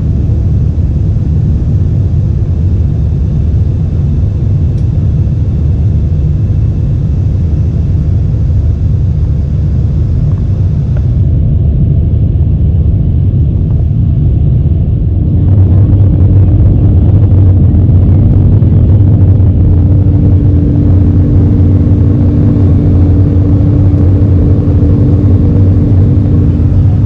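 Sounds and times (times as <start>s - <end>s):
aircraft engine rumble: 0.0s - 27.0s
steady hum: 0.0s - 27.0s.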